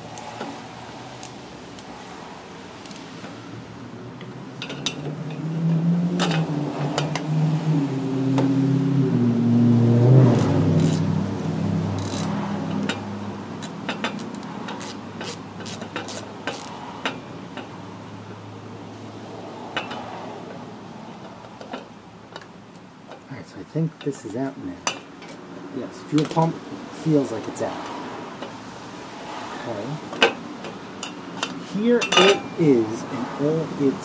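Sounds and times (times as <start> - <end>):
motor vehicle passing: 0.0 - 22.6, 25.4 - 34.0.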